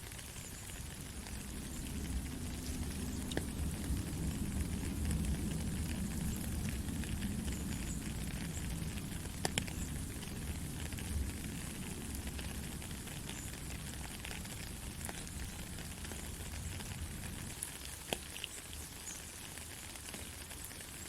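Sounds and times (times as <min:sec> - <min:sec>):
raindrops ticking: 0:00.0 - 0:21.0
soft rain hissing: 0:00.0 - 0:21.0.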